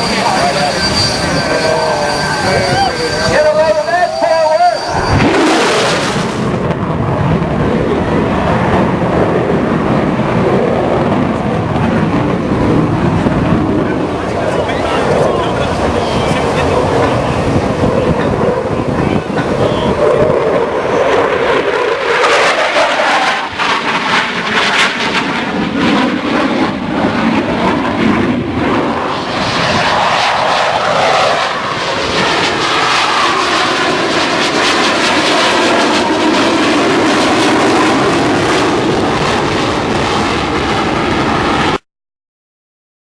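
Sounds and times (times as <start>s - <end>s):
airplane engine flying past: 0.0s - 41.8s.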